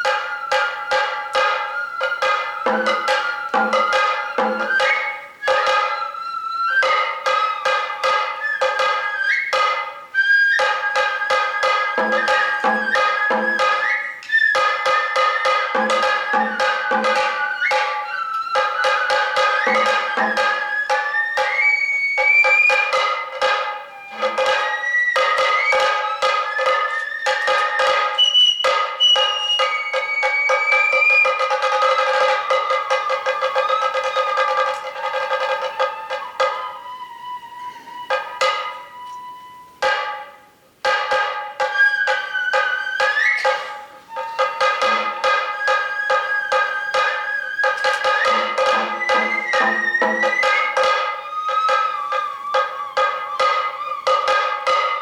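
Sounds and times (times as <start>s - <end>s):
rapid drum strokes: 0.0s - 36.8s, 39.8s - 55.0s
bamboo flute melody: 0.0s - 55.0s.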